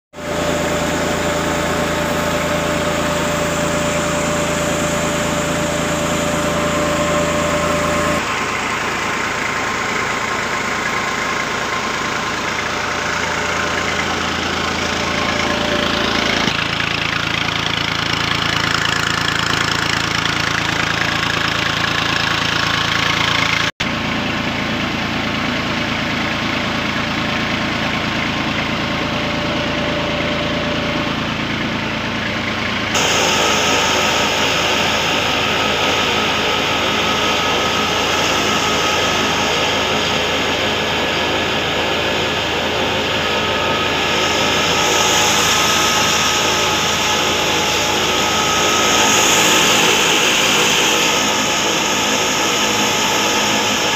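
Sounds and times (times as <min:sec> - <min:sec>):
tractor diesel engine running: 0:00.1 - 0:53.9.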